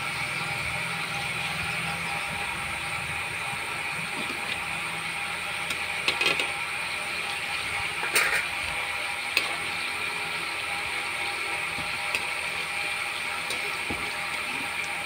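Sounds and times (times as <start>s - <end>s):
dumplings sizzling in oil: 0.0s - 15.0s.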